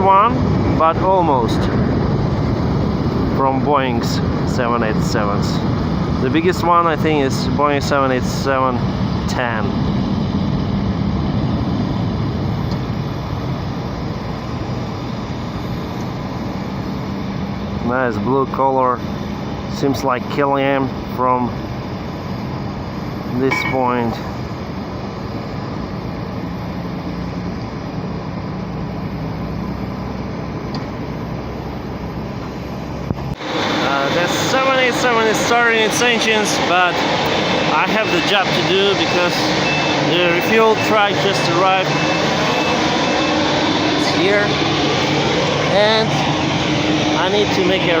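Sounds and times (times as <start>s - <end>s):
jet airliners humming: 0.0s - 48.0s.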